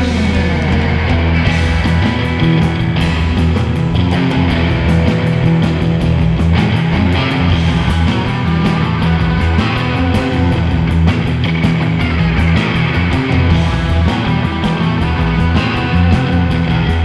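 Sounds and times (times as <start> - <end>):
drum kit with cymbal beat: 0.0 - 17.0
electric guitars: 0.0 - 17.0.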